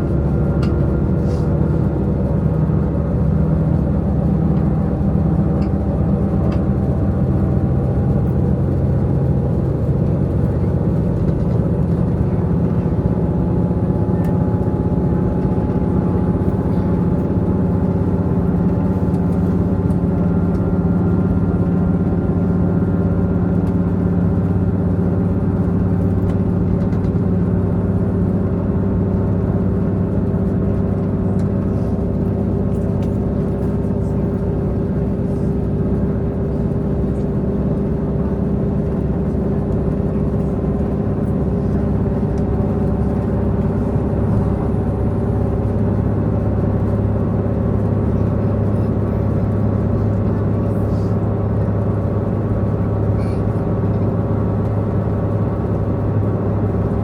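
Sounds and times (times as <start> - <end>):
train diesel engine droning: 0.0 - 57.0.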